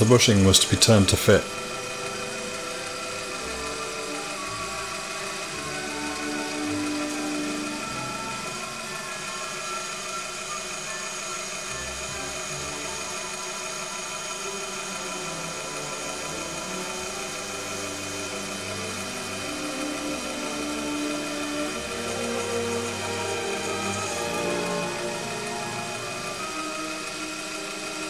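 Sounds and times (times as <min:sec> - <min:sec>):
boring bar cutting steel: 0:00.0 - 0:28.0
lathe motor whine: 0:00.0 - 0:28.0
orchestral music: 0:00.0 - 0:28.0.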